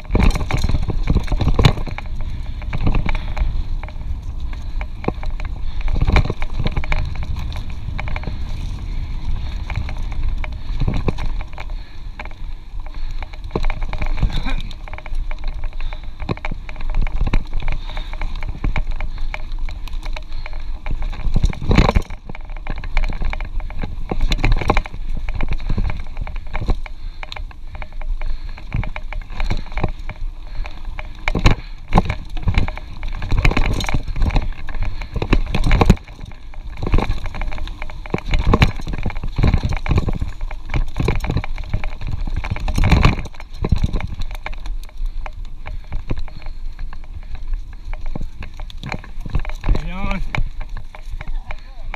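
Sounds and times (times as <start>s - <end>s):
bike frame rattling and knocking: 0.0s - 51.9s
wind rumble on microphone: 0.0s - 51.9s.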